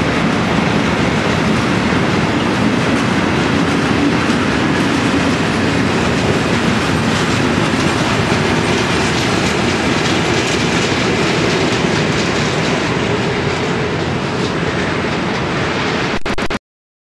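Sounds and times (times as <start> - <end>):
freight train wheels clattering: 0.0 - 16.0.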